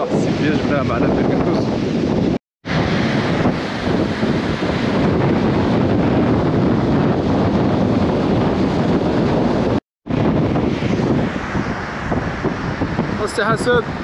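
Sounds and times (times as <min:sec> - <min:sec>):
surf washing over rocks: 0:00.0 - 0:14.0
wind buffeting microphone: 0:00.0 - 0:14.0.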